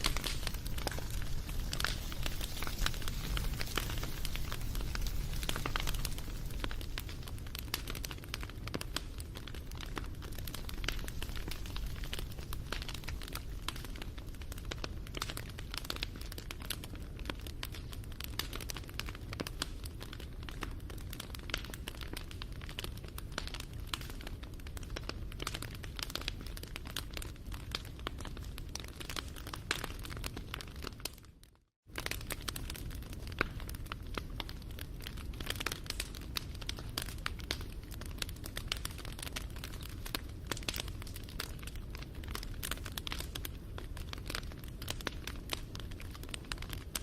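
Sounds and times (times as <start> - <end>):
campfire crackling: 0.0 - 31.3, 31.9 - 47.0
low rumble of flames: 0.0 - 47.0.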